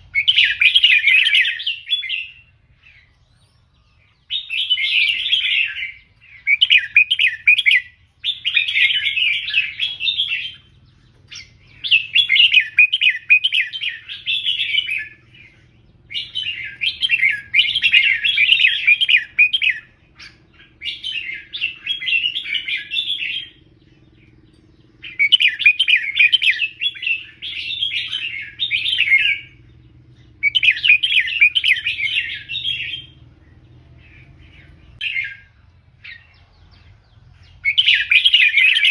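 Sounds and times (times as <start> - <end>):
bird singing chirping phrases: 0.0 - 38.9.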